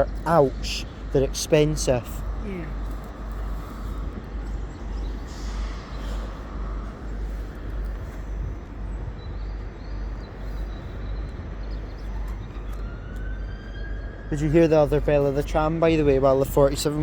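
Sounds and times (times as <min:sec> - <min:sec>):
low rumble of trains: 0:00.0 - 0:17.0.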